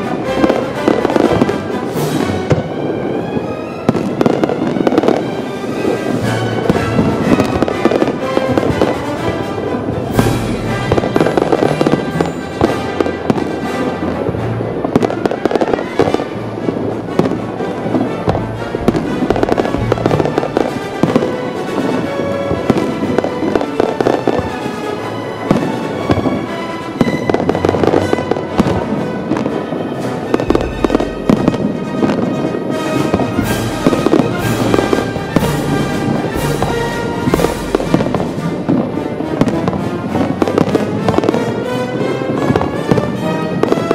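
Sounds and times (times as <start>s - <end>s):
fireworks bursting: 0.0s - 43.9s
music playing: 0.0s - 43.9s.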